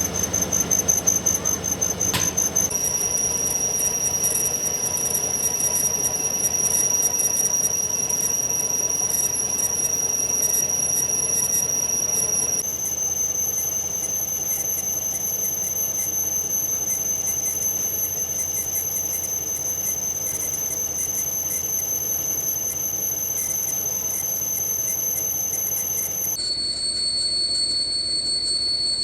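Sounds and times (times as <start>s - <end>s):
metal lathe squealing: 0.0s - 26.4s.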